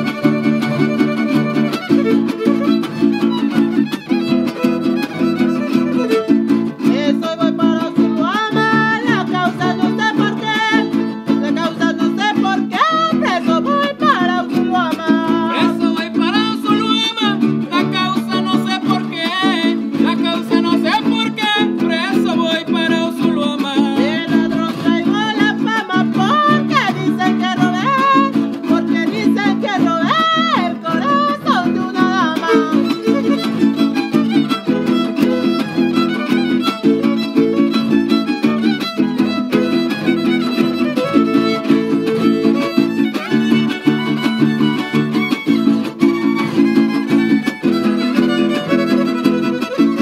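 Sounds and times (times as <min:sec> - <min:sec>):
guitars strumming: 0:00.0 - 0:50.0
violin melody: 0:00.0 - 0:50.0.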